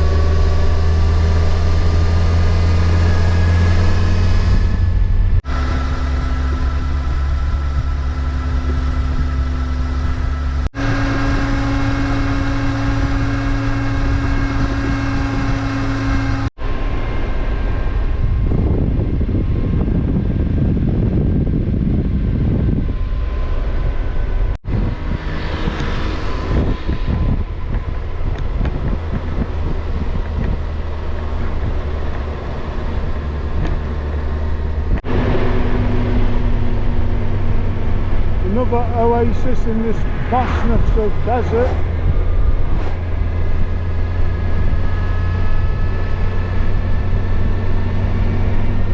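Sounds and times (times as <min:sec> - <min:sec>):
road and wind noise: 0:00.0 - 0:48.9
vehicle engine running: 0:00.0 - 0:48.9.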